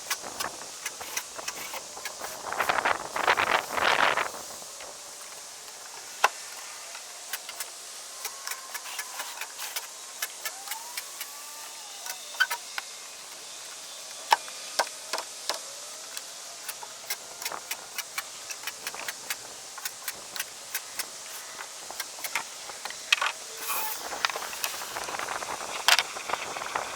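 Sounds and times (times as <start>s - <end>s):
steady hiss: 0.0s - 26.9s.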